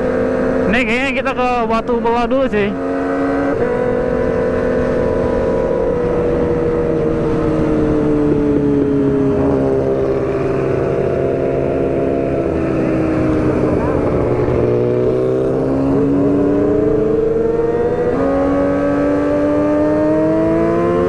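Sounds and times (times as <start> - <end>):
motorcycle engine cruising: 0.0 - 21.0
wind and road noise: 0.0 - 21.0.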